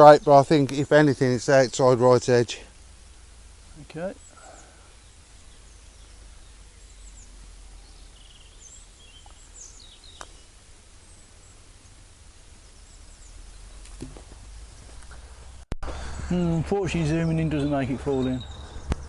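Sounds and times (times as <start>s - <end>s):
steady low rumble: 0.0s - 18.0s
small birds chirping: 0.0s - 19.0s.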